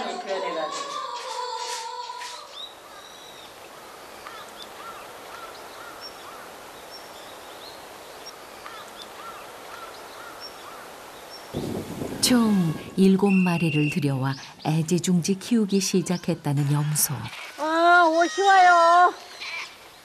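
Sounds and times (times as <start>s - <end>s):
steady outdoor hiss: 0.0s - 20.0s
small birds chirping: 0.7s - 20.0s.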